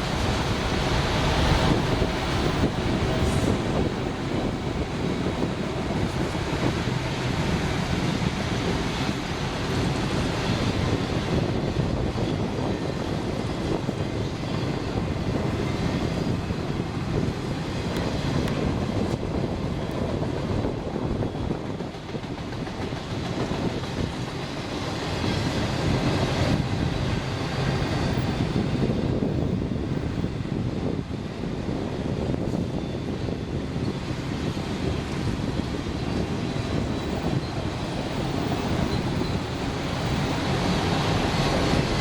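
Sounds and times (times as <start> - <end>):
freight train wheels on rails: 0.0 - 42.0.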